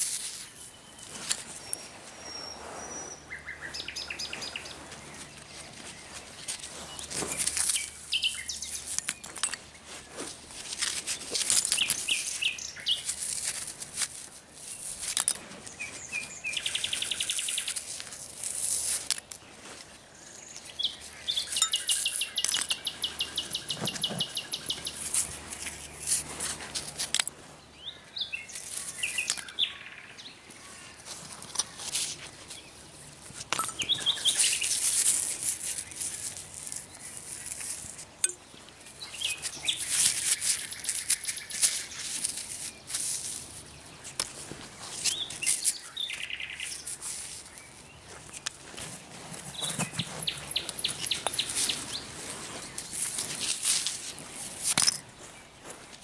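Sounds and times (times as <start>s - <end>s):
nightingale singing: 0.2s - 10.4s, 11.1s - 13.6s, 14.6s - 18.0s, 19.4s - 26.2s, 27.5s - 53.7s.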